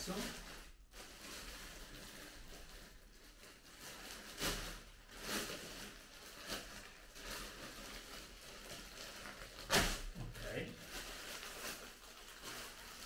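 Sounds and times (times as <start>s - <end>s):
plastic bag ripping: 0.0s - 13.0s
plastic bag rustling and crinkling: 0.0s - 13.0s.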